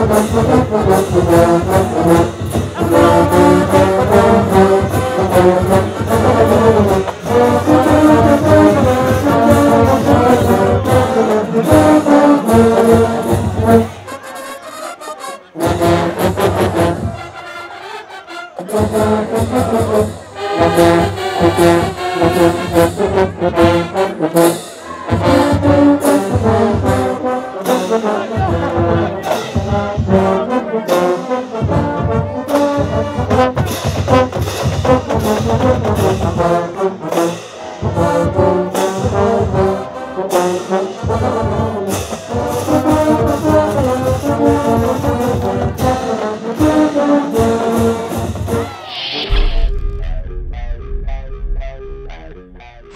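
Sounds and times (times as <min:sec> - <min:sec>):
marching band brass playing: 0:00.0 - 0:52.9.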